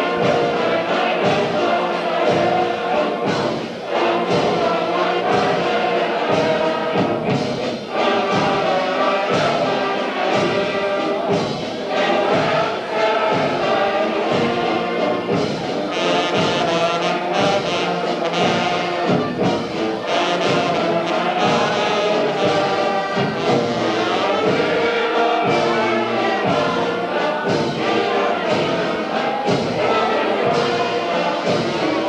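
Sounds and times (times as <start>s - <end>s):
wind band playing: 0.0s - 32.0s.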